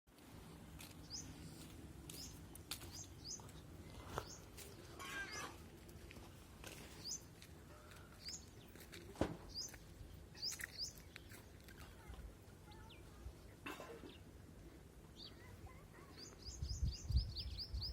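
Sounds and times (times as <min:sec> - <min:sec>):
small birds chirping: 0:00.8 - 0:05.6, 0:06.7 - 0:14.4, 0:15.0 - 0:17.9.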